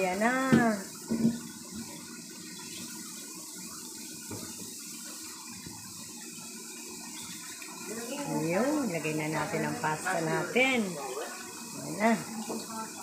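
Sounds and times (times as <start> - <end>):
sauce bubbling in a wok: 0.0 - 13.0.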